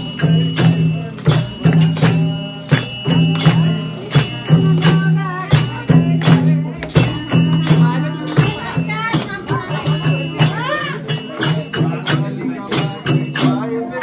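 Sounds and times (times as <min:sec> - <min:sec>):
person singing devotional song: 0:00.0 - 0:14.0
struck percussion beat: 0:00.0 - 0:14.0.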